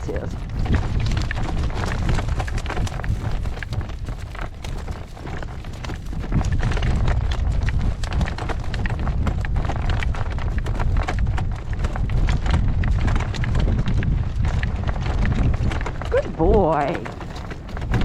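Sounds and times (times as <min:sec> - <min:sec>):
horse hooves clopping: 0:00.0 - 0:18.0
strong wind buffeting microphone: 0:00.0 - 0:18.0.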